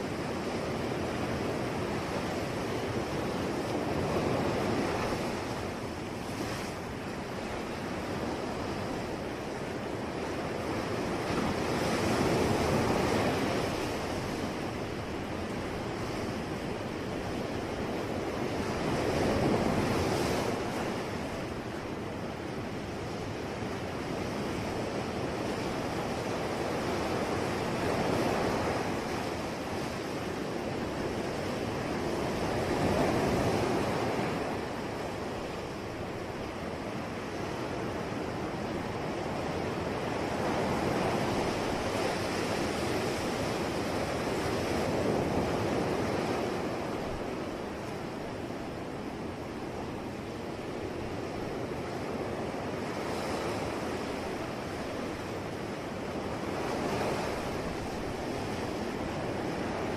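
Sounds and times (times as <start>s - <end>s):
sea waves breaking on shore: 0.0s - 59.9s
wind: 0.0s - 59.9s.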